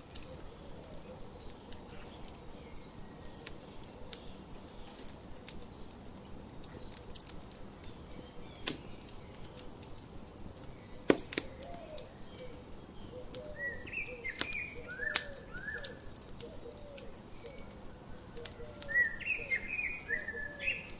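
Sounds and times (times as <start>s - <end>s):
birds chirping: 0.0s - 20.9s
birdsong: 0.0s - 20.9s
wood fire crackling and popping: 0.0s - 20.9s.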